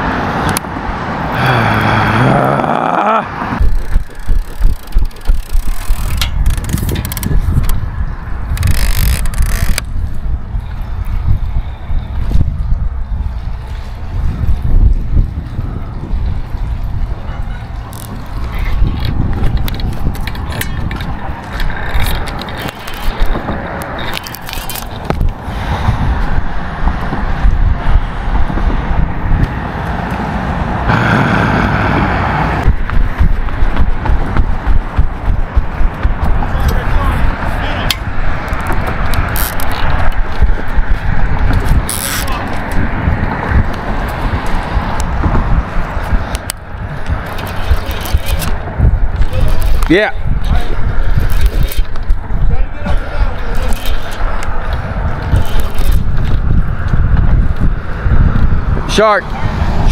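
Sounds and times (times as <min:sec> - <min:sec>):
traffic noise: 0:00.0 - 0:59.9
wind buffeting microphone: 0:00.0 - 0:59.9.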